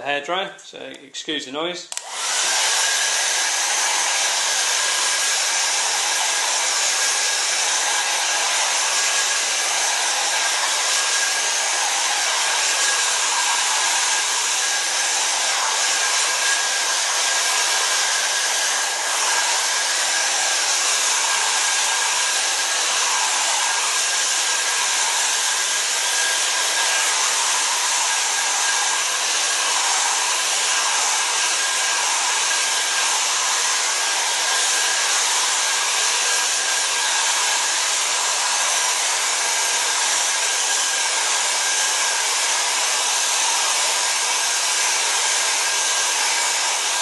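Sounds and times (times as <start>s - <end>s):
hair dryer running: 1.9s - 47.0s.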